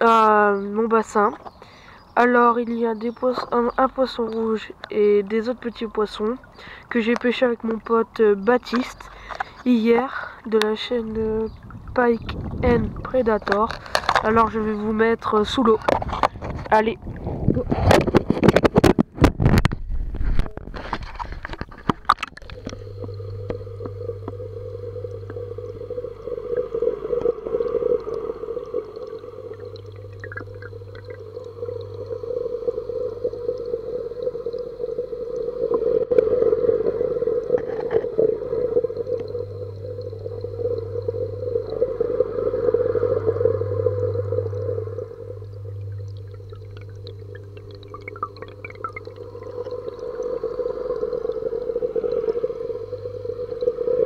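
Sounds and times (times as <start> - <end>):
aerator bubbling and crackling: 0.0 - 54.0
lower hum: 0.0 - 54.0
underwater hum: 0.0 - 54.0.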